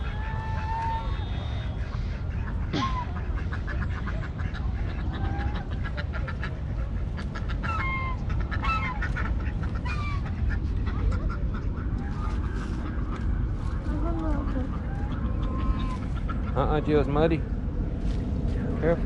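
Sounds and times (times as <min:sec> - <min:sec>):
ducks quacking: 0:00.0 - 0:17.6
steady low rumble: 0:00.0 - 0:19.0.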